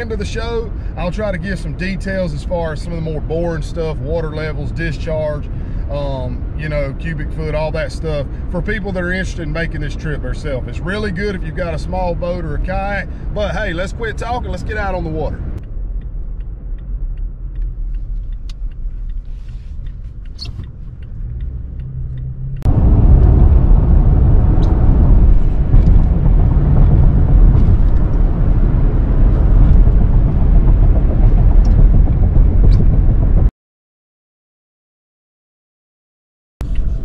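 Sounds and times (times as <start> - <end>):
road and wind noise: 0.0 - 33.5, 36.6 - 37.0
vehicle rumble from inside cab: 0.0 - 33.5, 36.6 - 37.0.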